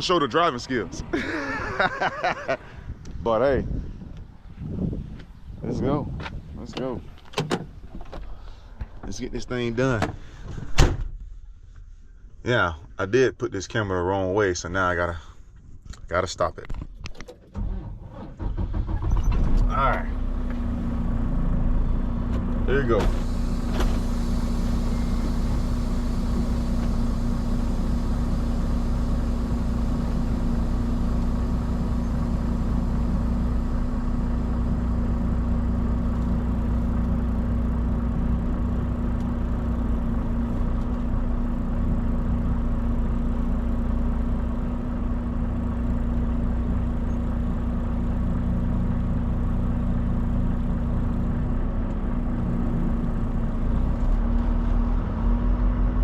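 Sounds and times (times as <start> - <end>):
diesel truck engine rumbling: 0.0 - 10.8, 17.5 - 56.0.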